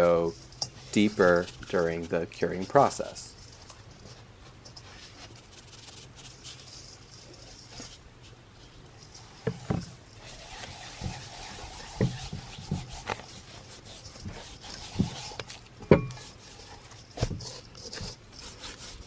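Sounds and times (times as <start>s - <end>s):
hands rubbing spice into meat: 0.0s - 19.0s.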